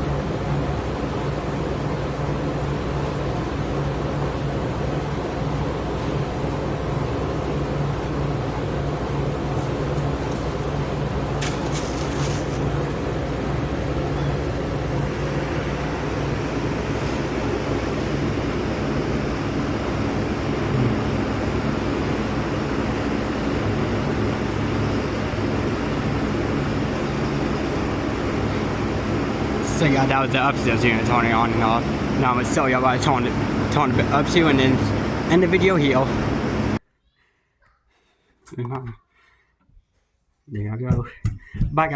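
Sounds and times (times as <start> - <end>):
heat pump humming: 0.0 - 36.8.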